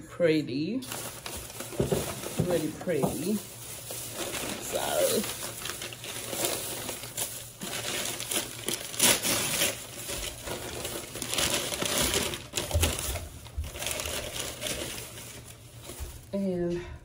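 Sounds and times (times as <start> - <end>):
packaging crinkling: 0.8 - 16.4.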